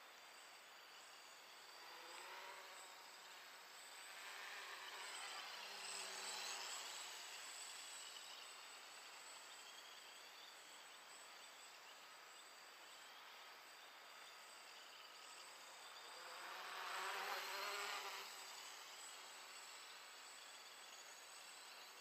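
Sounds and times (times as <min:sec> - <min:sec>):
quadcopter motors buzzing: 0:00.2 - 0:22.0.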